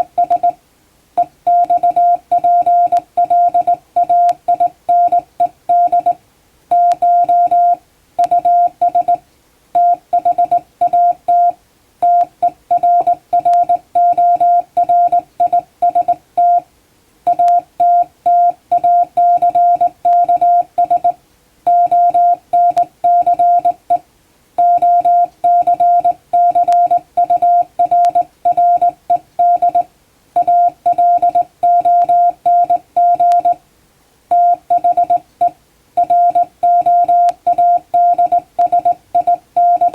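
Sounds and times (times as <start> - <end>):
morse code beeps: 0.0 - 0.6, 1.2 - 9.2, 9.8 - 16.6, 17.3 - 24.0, 24.6 - 33.6, 34.3 - 39.9.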